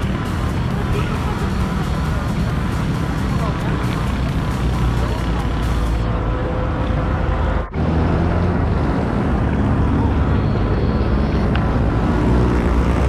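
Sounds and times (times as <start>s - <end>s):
low rumble of road noise: 0.0s - 13.0s.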